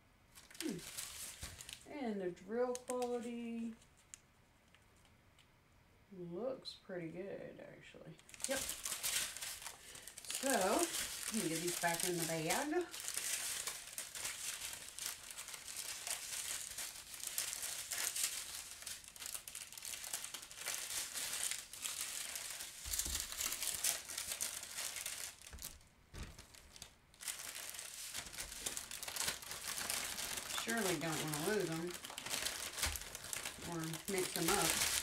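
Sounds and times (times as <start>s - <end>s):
plastic bags crinkling: 0.3s - 1.9s, 8.2s - 35.0s.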